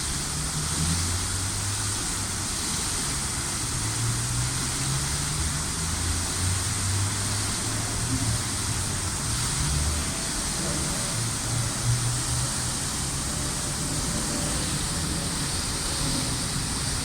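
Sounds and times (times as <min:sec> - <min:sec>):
fountain water rushing: 0:00.0 - 0:17.0
passing traffic hum: 0:00.0 - 0:17.0.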